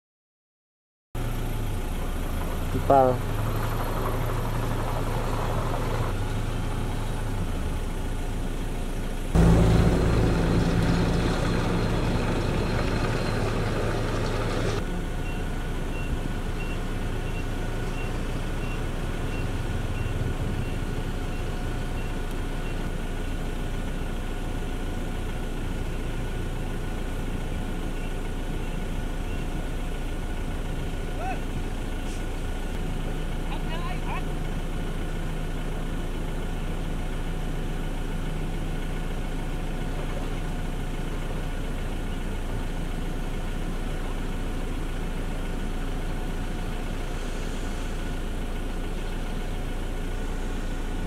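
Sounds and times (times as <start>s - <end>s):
diesel engines running: 1.2s - 51.0s.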